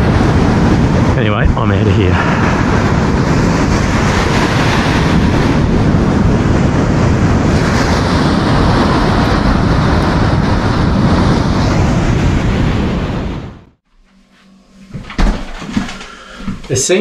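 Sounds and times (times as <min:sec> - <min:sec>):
surf breaking on beach: 0:00.0 - 0:13.7
wind on microphone: 0:00.0 - 0:13.8.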